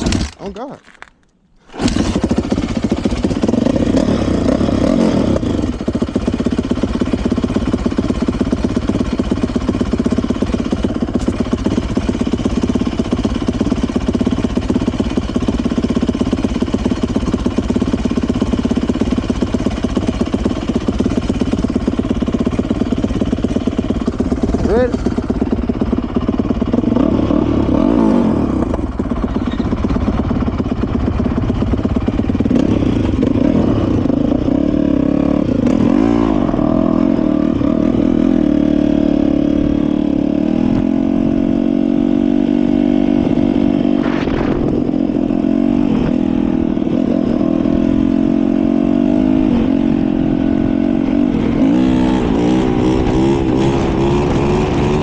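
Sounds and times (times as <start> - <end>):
dirt bike engine: 0.0 - 55.0.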